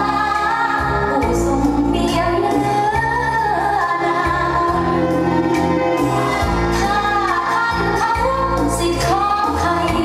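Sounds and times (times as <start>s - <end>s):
woman singing: 0.0s - 5.4s, 6.5s - 10.0s
bass line: 0.0s - 10.0s.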